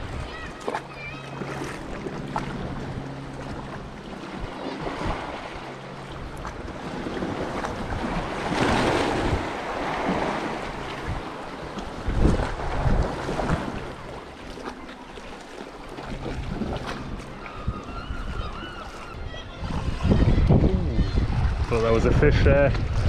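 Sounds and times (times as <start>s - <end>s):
sea swell washing against rocks: 0.0s - 23.0s.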